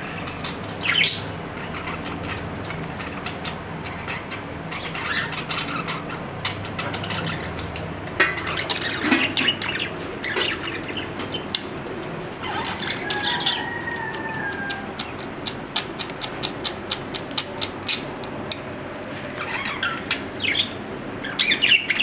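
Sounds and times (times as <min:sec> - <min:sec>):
budgerigars chattering and chirping: 0:00.2 - 0:11.7, 0:12.4 - 0:18.7, 0:19.4 - 0:22.0.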